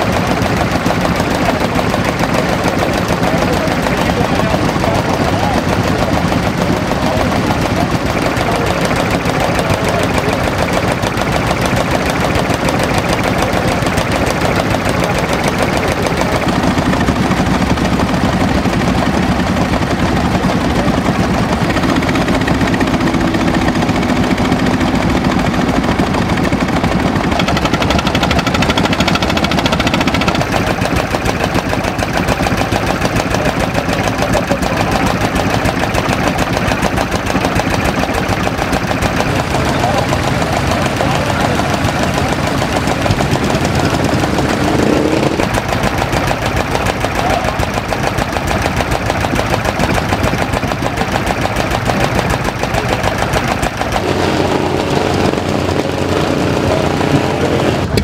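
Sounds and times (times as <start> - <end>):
sharp exhaust beats: 0.0 - 58.0
stationary engines running: 0.0 - 58.0.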